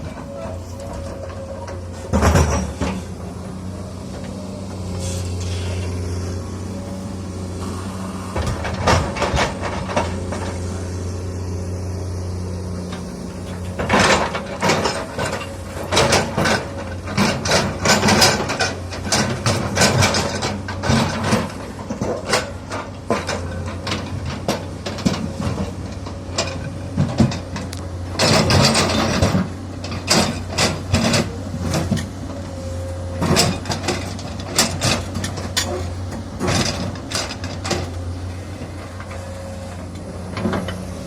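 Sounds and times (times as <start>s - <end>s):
excavator engine running: 0.0s - 41.0s.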